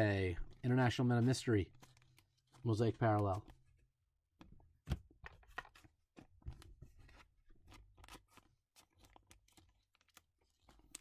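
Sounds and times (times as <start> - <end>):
trading cards clicking and rustling: 0.4 - 3.8, 5.1 - 11.0.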